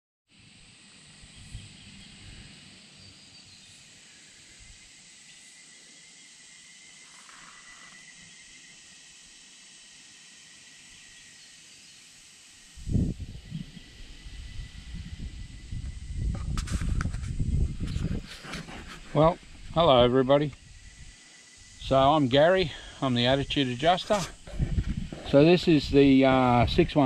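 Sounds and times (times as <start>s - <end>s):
high insect drone: 0.3s - 27.0s.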